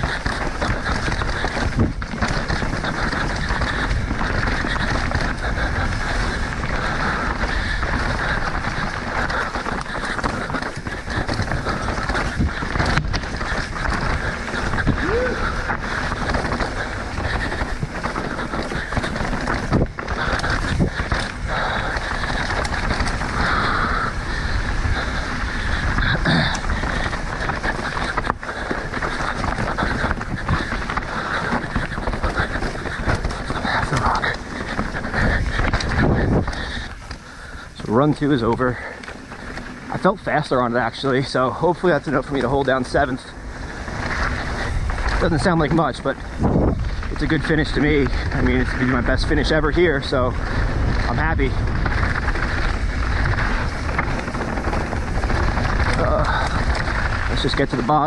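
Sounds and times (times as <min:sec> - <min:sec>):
bike clattering over bumps: 0:00.0 - 0:58.0
tyres on dirt and rock: 0:00.0 - 0:58.0
wind buffeting microphone: 0:00.0 - 0:58.0.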